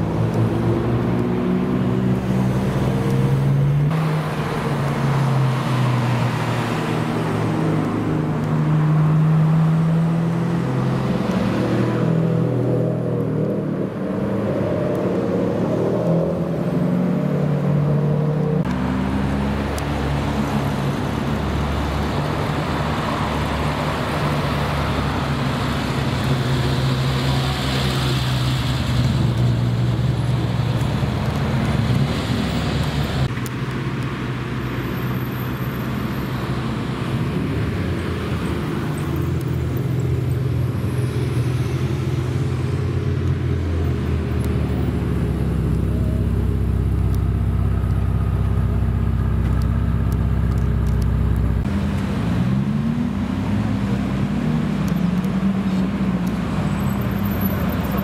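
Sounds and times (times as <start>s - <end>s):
car engines at low revs: 0.0s - 58.0s.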